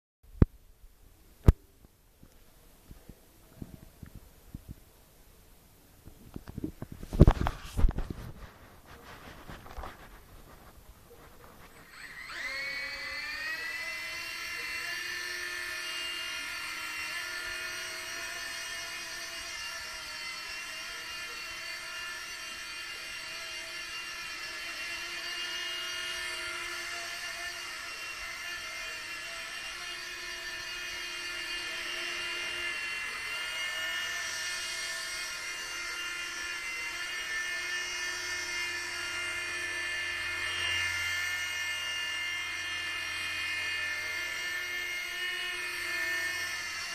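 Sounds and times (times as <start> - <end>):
rc helicopter rotor whine: 7.0 - 46.9.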